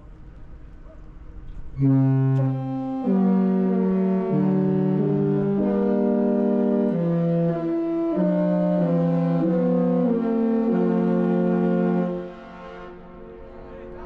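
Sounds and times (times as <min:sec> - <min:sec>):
ship horn playing a tune: 0:01.6 - 0:14.0.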